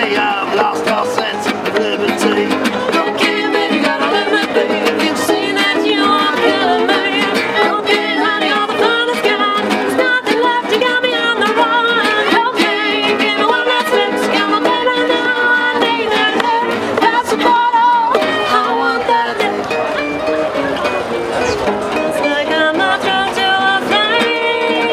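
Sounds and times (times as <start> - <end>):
cajon beat: 0.0 - 24.9
fiddle melody with vibrato: 0.0 - 24.9
plucked string instrument: 0.0 - 24.9
strummed acoustic guitars: 0.0 - 24.9.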